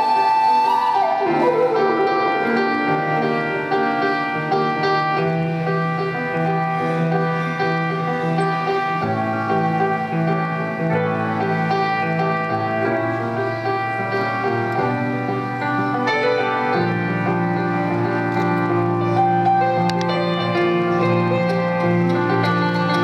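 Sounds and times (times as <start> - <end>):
grand piano playing: 0.0 - 23.0.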